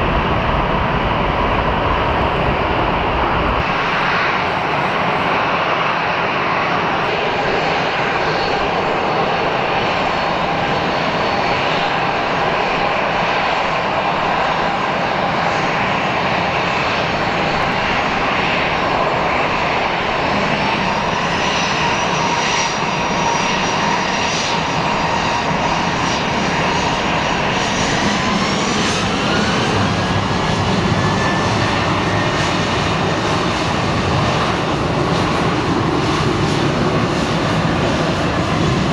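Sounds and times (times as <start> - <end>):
jet engines roaring with whine: 0.0 - 38.9.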